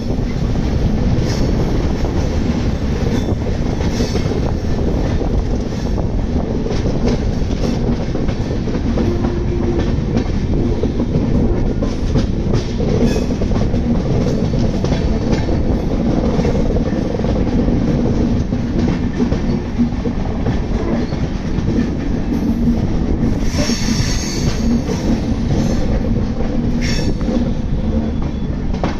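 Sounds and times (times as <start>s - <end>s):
train wheels rumbling on rails: 0.0s - 28.9s
wheels clickety-clack over joints: 0.0s - 28.9s.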